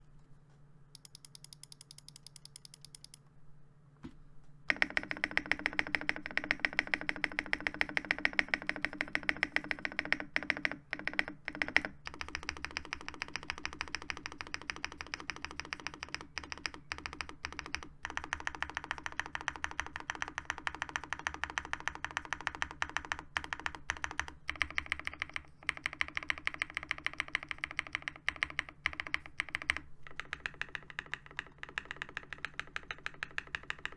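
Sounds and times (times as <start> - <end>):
mechanical keyboard typing: 1.0 - 3.2, 4.7 - 33.9.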